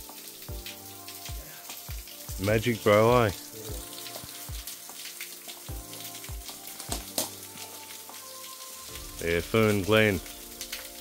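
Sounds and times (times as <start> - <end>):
waterfall dripping and splashing: 0.0 - 11.0.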